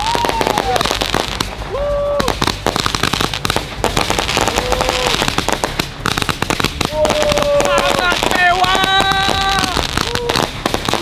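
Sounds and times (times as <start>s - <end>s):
firework cake rapid bangs and crackling: 0.0s - 11.0s.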